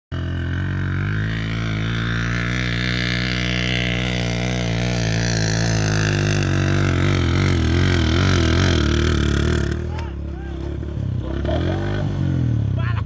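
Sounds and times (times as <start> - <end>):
motorcycle engine running: 0.1 - 13.0.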